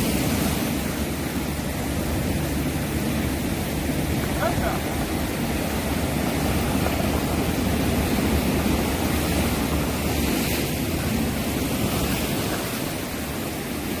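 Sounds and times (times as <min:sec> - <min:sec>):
surf breaking on rocky shore: 0:00.0 - 0:14.0.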